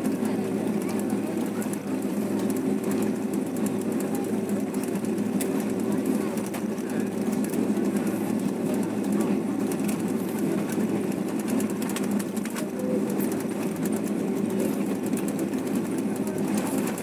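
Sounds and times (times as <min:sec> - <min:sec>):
faint clicks and rattles: 0:00.0 - 0:17.0
jet engines droning: 0:00.0 - 0:17.0.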